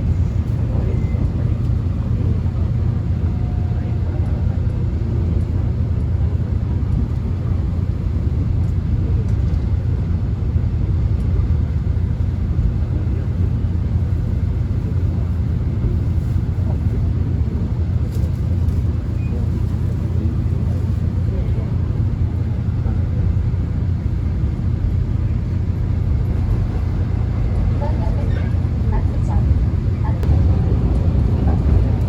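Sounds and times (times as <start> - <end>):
subway train rumbling: 0.0 - 32.0.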